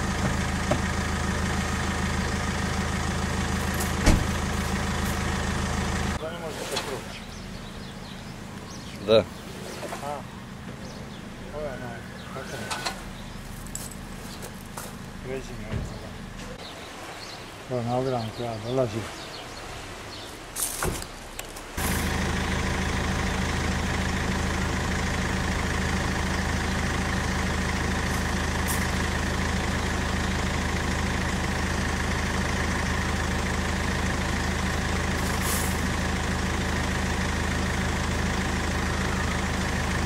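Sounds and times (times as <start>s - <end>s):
engine idling: 0.0s - 16.6s, 21.7s - 40.0s.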